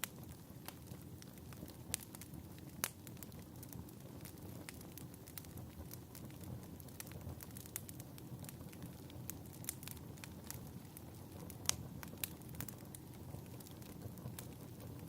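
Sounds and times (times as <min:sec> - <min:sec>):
fire pops and snaps: 0:00.0 - 0:15.0
fireplace crackling: 0:00.0 - 0:15.0.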